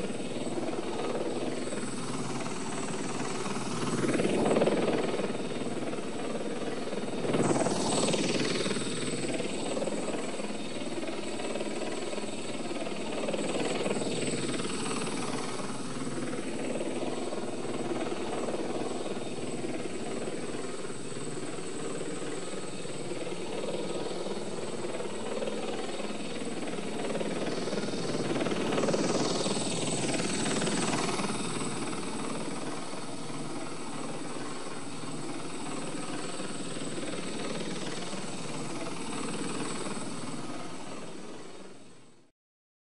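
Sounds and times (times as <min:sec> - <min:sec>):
helicopter rotor and engine: 0:00.0 - 0:42.3.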